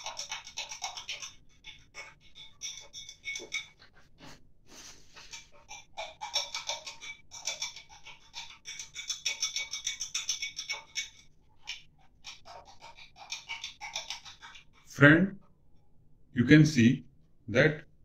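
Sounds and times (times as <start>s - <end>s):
spatula scraping glass beaker: 0.0s - 15.1s.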